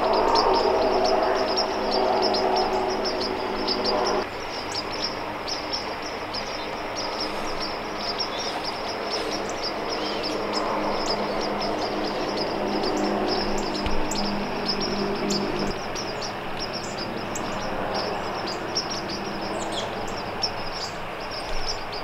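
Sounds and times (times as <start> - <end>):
small birds chirping rapidly: 0.0 - 22.0
steady low humming tone: 0.0 - 22.0.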